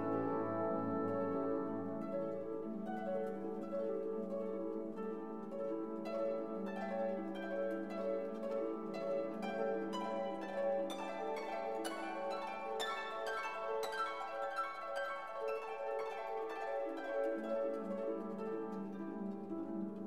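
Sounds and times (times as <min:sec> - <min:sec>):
plucked instrumental music: 0:00.0 - 0:20.0.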